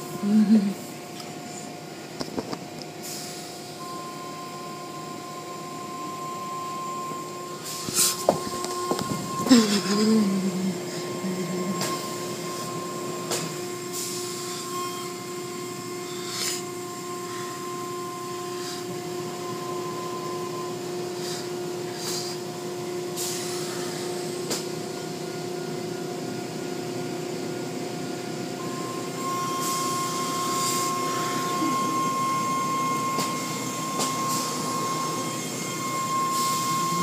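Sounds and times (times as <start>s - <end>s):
car wash motor hum: 0.0s - 37.0s.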